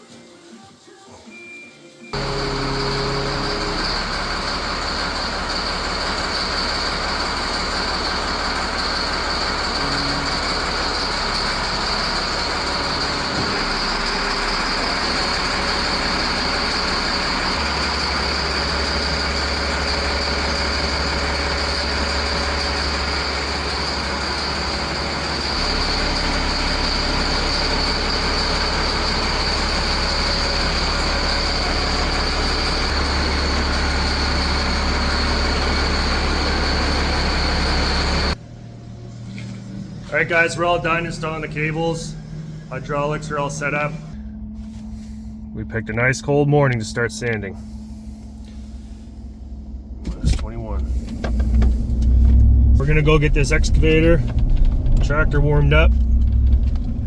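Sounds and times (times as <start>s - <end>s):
vehicle rumble: 2.2s - 45.8s, 47.5s - 57.0s.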